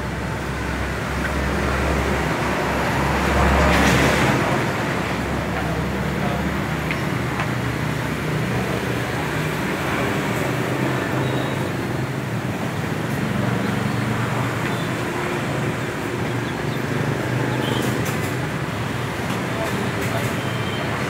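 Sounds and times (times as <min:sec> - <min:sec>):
road traffic din: 0:00.0 - 0:21.0.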